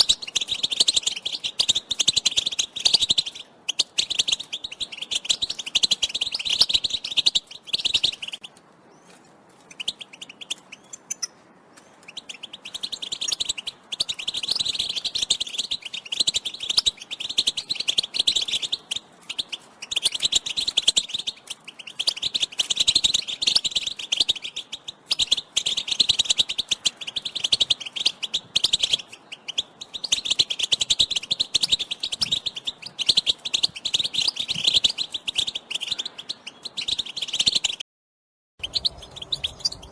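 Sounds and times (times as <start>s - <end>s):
goldfinch twittering: 0.0s - 8.5s, 12.0s - 37.8s, 38.6s - 39.9s.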